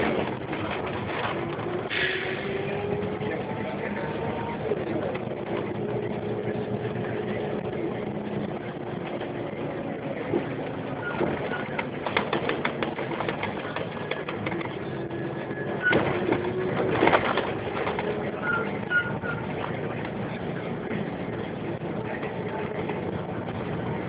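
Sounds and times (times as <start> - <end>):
bus body rattling and knocking: 0.0 - 24.0
bus running hum: 0.0 - 24.0.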